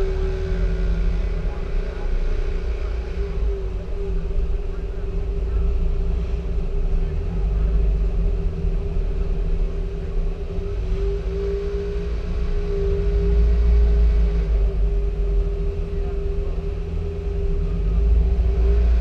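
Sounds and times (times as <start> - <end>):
car engine running low: 0.0 - 19.0.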